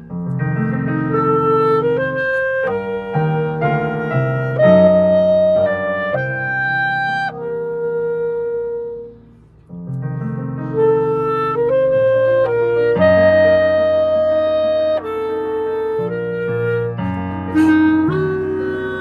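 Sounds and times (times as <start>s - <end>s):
solo clarinet: 0.0s - 19.0s.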